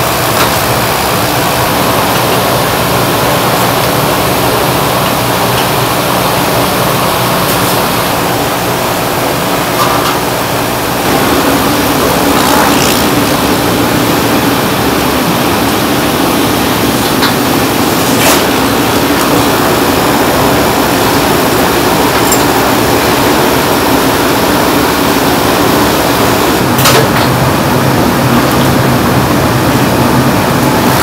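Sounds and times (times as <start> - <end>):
electric air pump humming: 0.0 - 31.0.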